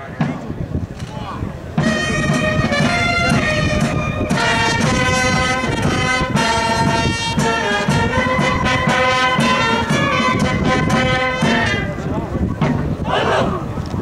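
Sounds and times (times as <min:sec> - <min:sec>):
brass band playing: 0:01.7 - 0:13.5.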